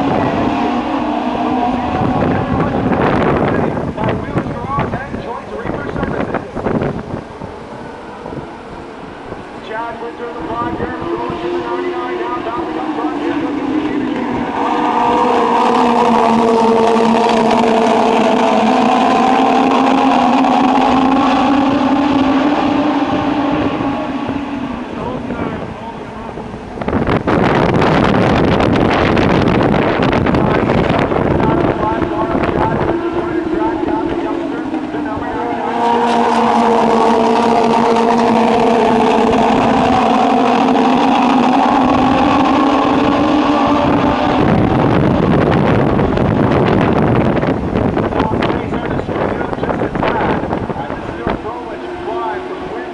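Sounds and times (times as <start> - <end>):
race cars passing: 0.0 - 52.9.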